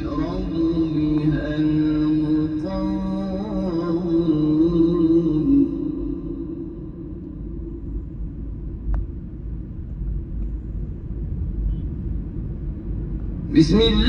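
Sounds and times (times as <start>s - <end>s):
low outdoor background rumble: 0.0s - 14.0s.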